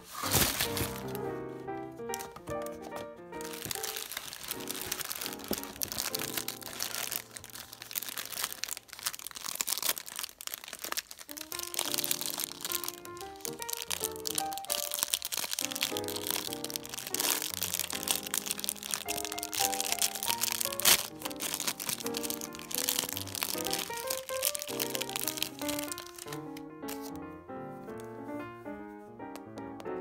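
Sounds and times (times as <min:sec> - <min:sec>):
background music with melody: 0:00.0 - 0:08.8, 0:11.6 - 0:30.0
plastic wrapper crinkling: 0:00.0 - 0:27.3.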